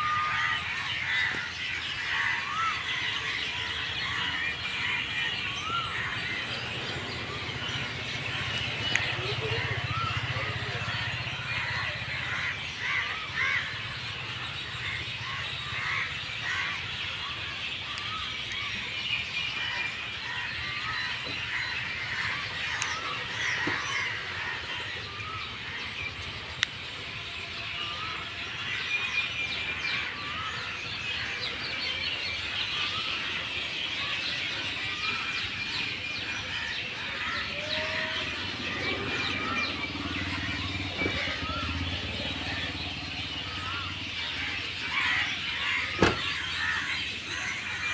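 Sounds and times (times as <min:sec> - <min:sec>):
flock of birds chirping: 0:00.0 - 0:47.9.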